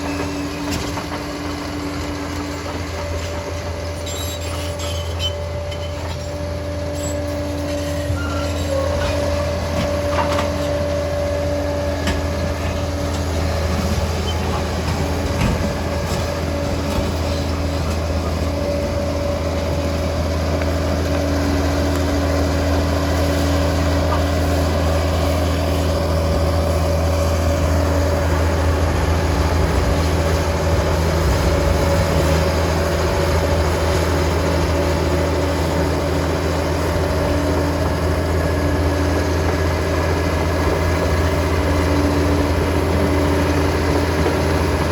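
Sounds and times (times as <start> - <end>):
dozer diesel engine drone: 0.0 - 44.9.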